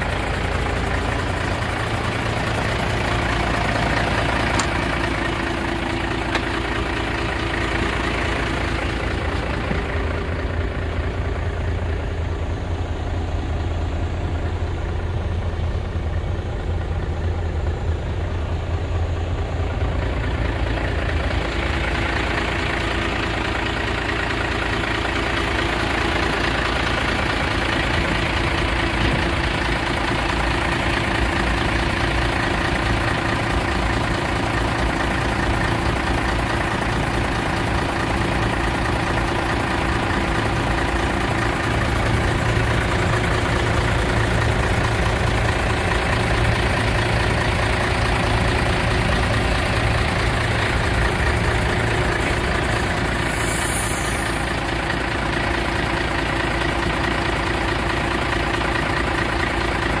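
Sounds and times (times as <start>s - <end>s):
diesel truck engine idling: 0.0s - 60.0s.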